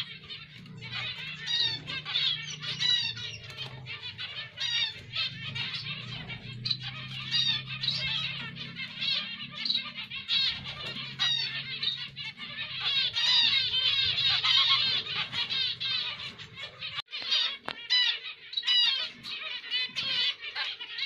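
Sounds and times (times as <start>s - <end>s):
finches beeping calls: 0.0s - 21.0s.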